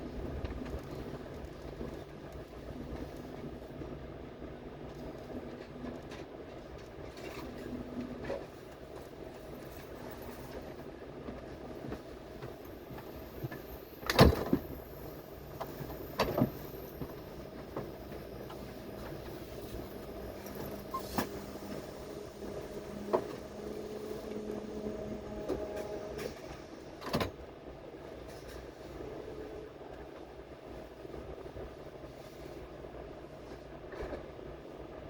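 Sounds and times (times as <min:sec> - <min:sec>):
train rumble and hum: 0:00.0 - 0:35.0.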